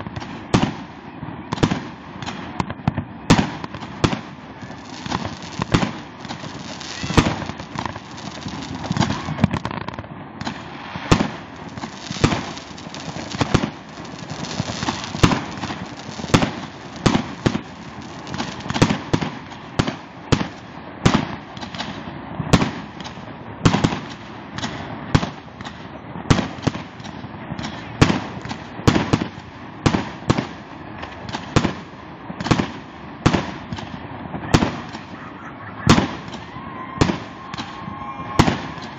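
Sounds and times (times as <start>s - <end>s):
fireworks bangs: 0.0s - 31.8s, 35.9s - 38.9s
faint fireworks bangs and crackle: 0.0s - 38.9s.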